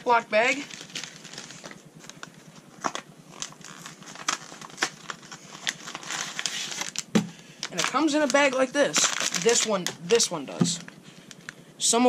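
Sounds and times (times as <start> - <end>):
plastic bag crinkling: 0.4 - 11.5.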